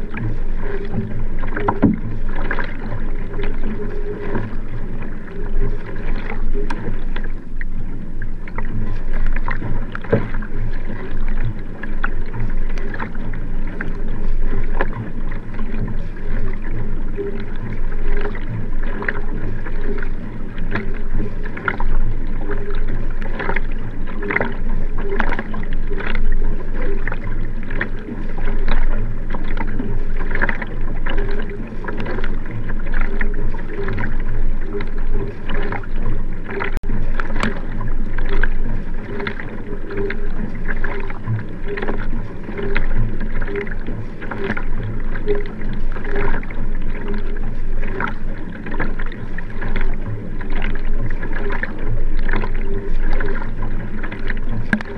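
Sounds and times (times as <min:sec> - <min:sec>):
paddle strokes splashing: 0:00.0 - 0:54.9
water rushing along hull: 0:00.0 - 0:54.9.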